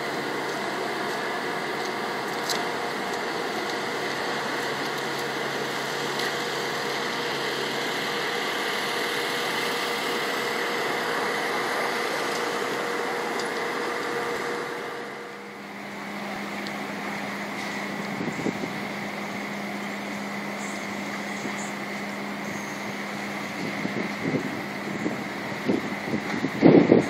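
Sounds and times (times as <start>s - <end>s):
machinery idling drone: 0.0s - 27.0s.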